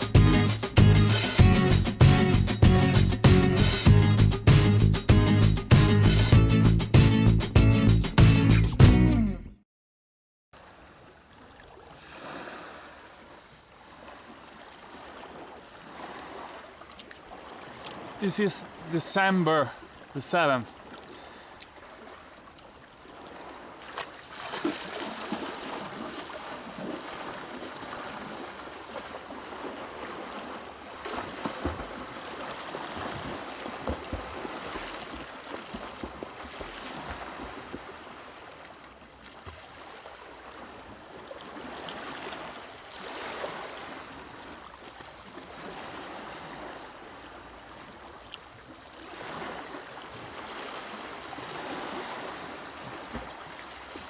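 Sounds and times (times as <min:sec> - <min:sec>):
water splashing: 0:10.6 - 0:54.0.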